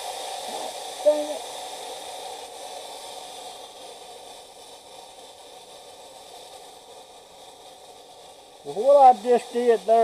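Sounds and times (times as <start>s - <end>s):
refrigerant gas hissing: 0.0s - 10.0s.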